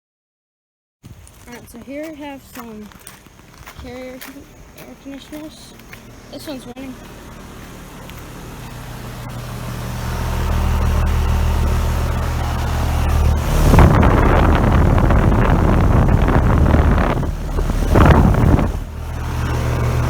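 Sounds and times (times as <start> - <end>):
fan air rush buffeting microphone: 1.0 - 20.0
air conditioner unit humming: 1.1 - 20.0.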